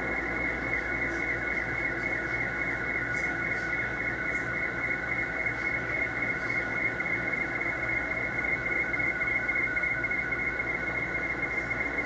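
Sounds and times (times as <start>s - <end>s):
radio band noise: 0.0s - 12.0s
warbling radio tones: 0.0s - 12.0s.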